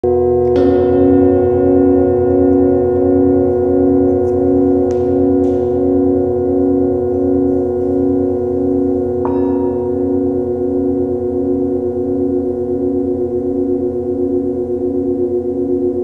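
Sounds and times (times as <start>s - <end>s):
singing bowls ringing: 0.0s - 16.0s.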